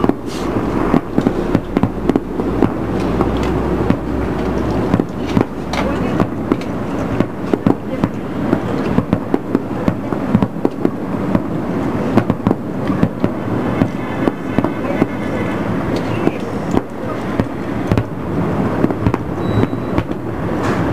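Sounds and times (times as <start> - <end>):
fireworks bursting: 0.0 - 20.9.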